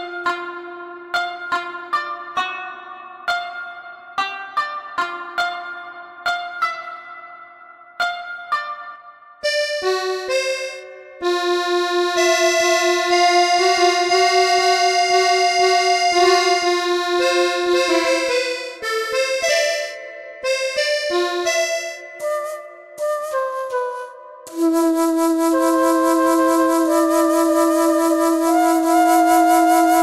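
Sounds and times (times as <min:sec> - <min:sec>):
slow melody of long held notes: 0:00.0 - 0:06.5, 0:09.4 - 0:30.0.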